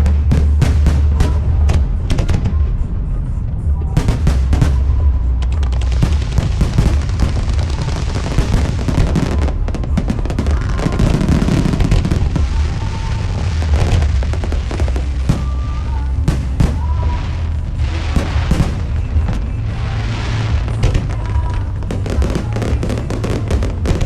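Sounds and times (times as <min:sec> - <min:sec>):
fireworks bangs and crackling: 0:00.0 - 0:24.0
low rumble: 0:00.0 - 0:24.0
music playing: 0:00.0 - 0:24.0.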